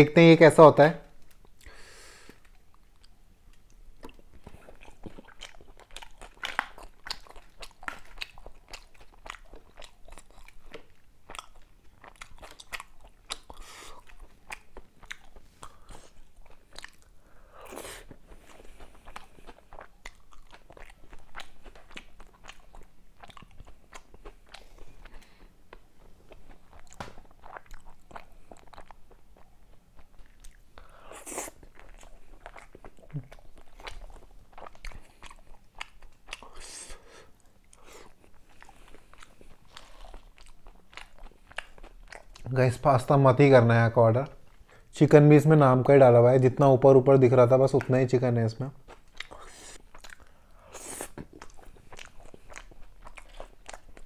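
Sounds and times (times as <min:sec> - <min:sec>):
chewing with wet mouth clicks: 0:02.3 - 0:36.6, 0:37.3 - 0:42.5, 0:48.8 - 0:54.0.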